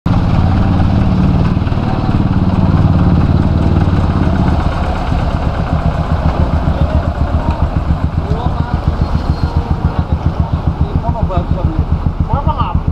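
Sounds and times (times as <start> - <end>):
low engine drone: 0.1 - 12.9
vehicle engines running: 0.1 - 12.9.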